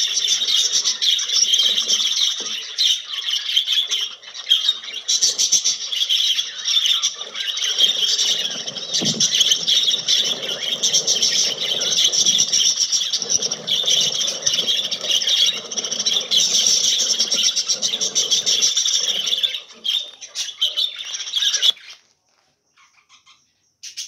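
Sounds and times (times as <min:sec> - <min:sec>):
budgerigars twittering: 0:00.0 - 0:22.0.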